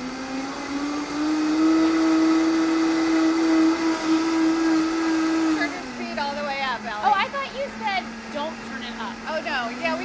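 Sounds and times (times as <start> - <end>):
blender motor whine: 0.0 - 10.0.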